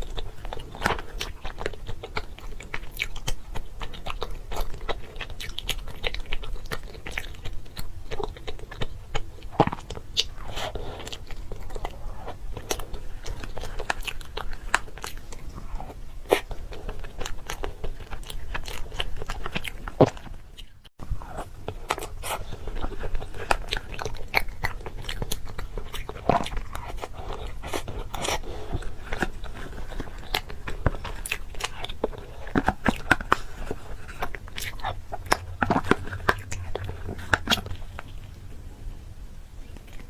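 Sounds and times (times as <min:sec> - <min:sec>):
crunchy food being chewed: 0:00.0 - 0:38.8, 0:39.6 - 0:40.0.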